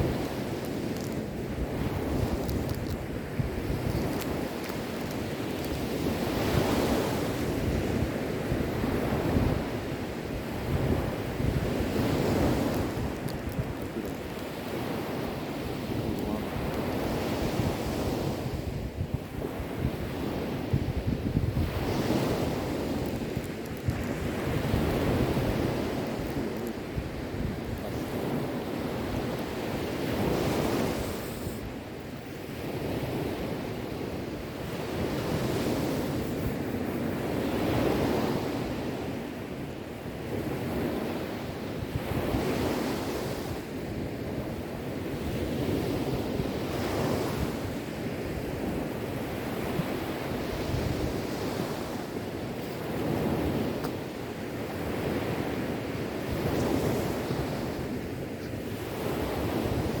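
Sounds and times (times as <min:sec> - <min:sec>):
sea waves breaking on shore: 0:00.0 - 1:00.0.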